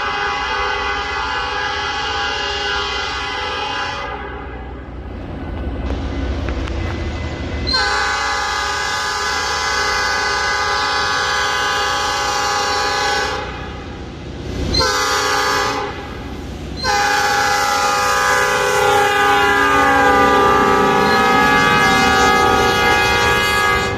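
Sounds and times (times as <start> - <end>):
locomotive air horn: 0.0 - 4.7, 7.7 - 13.9, 14.7 - 16.2, 16.8 - 23.9.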